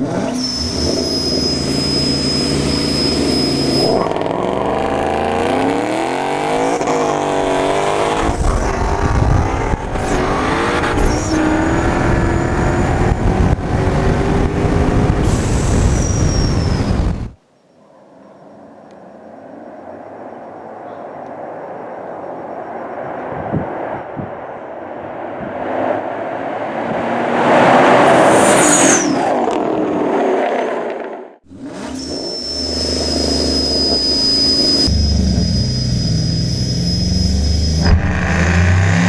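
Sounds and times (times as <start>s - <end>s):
cars accelerating hard: 0.0s - 16.0s, 23.0s - 39.0s.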